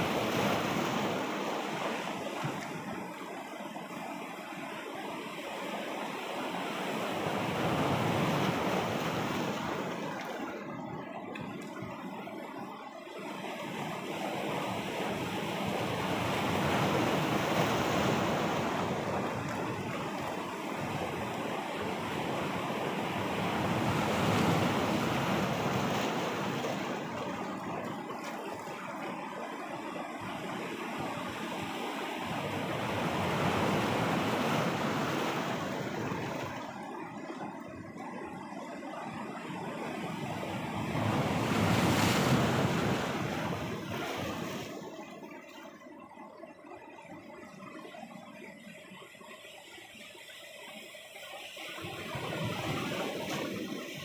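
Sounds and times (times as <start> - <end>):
waves breaking over rocks: 0.0 - 46.6, 51.6 - 54.0.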